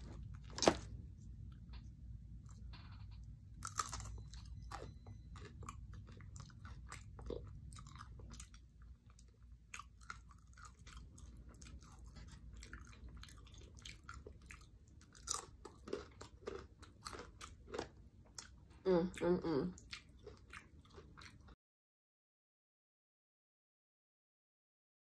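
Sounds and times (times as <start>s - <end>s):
person chewing crunchy food: 0.0s - 21.6s.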